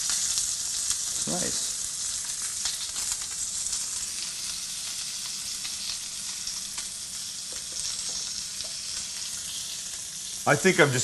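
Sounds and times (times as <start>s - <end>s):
fish sizzling on grill pan: 0.0s - 11.0s.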